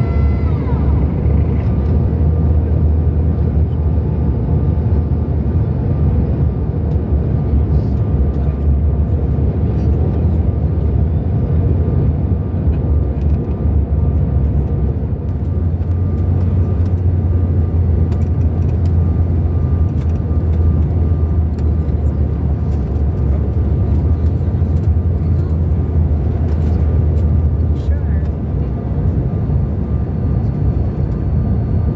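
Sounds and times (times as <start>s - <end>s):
jet cabin engine rumble: 0.0s - 31.9s.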